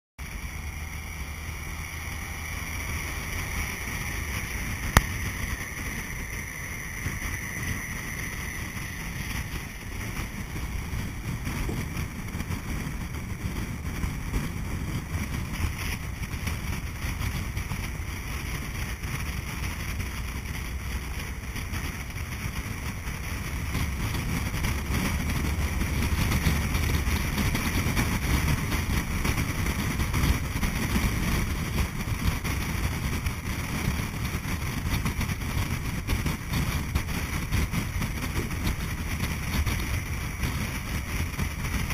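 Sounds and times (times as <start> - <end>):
bus engine running low: 0.2 - 41.9
tyre and road noise: 0.2 - 41.9
wind rushing on microphone: 0.2 - 41.9.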